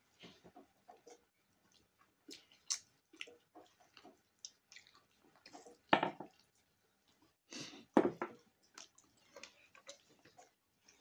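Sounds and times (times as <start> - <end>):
chewing and lip-smacking: 0.9 - 7.4, 8.4 - 11.0.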